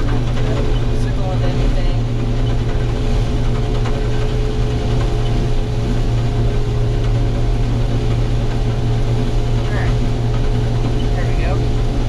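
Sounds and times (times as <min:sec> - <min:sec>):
combine harvester low drone: 0:00.0 - 0:12.0
constant hum tone: 0:00.0 - 0:12.0.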